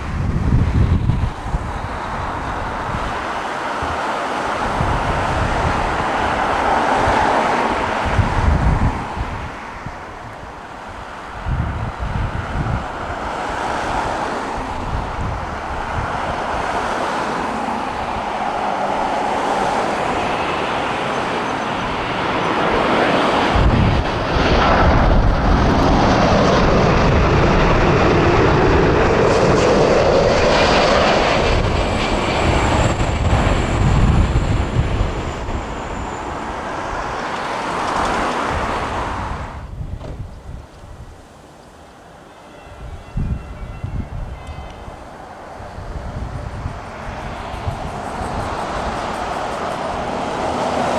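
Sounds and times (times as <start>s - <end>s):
high jet fan whine: 0.0s - 50.9s
jet airliner passing by: 0.0s - 50.9s.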